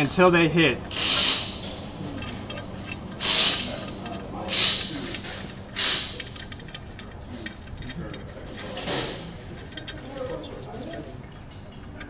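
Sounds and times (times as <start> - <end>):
adjuster clicks: 0.9 - 12.0.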